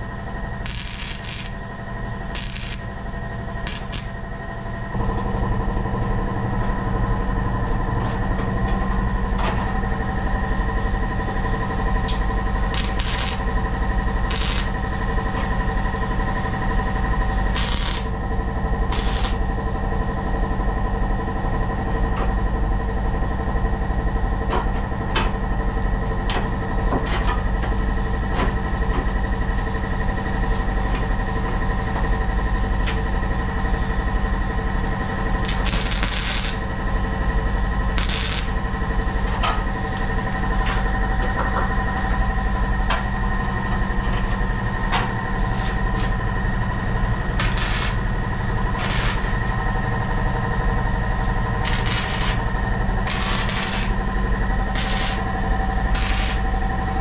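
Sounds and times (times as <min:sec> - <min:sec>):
machine running: 0:00.0 - 0:57.0.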